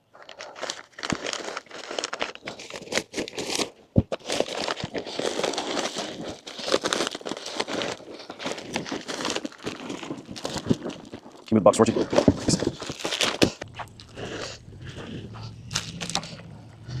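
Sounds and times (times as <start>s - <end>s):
packing material crinkling: 0.0s - 17.0s.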